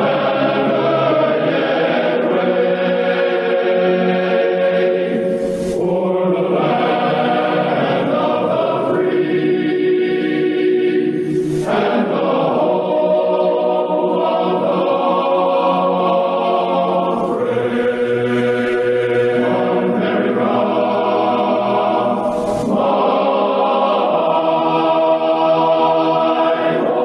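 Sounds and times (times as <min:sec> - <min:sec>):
choir singing chords: 0:00.0 - 0:27.0.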